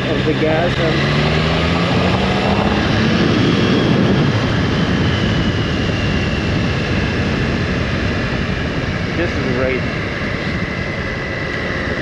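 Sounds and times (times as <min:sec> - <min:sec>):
motorcycle engine accelerating: 0:00.0 - 0:12.0
wind and road rush: 0:00.0 - 0:12.0.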